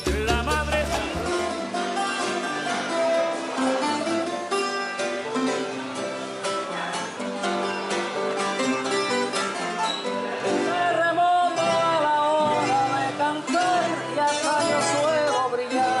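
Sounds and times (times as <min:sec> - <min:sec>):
acoustic guitars playing: 0:00.0 - 0:16.0.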